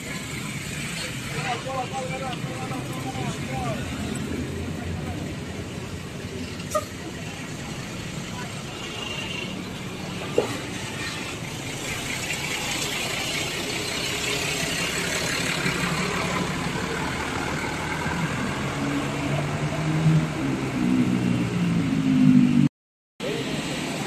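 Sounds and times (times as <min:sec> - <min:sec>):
bus engine running: 0:00.0 - 0:22.6.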